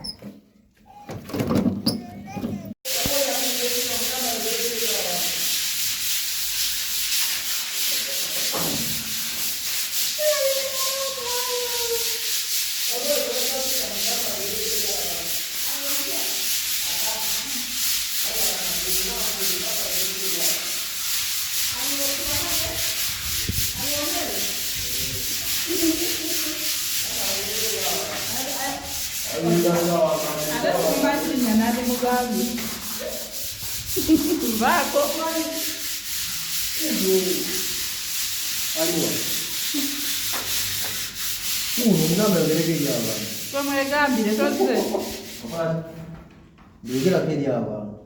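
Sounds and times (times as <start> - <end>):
plaster wall being sanded: 2.8 - 46.2.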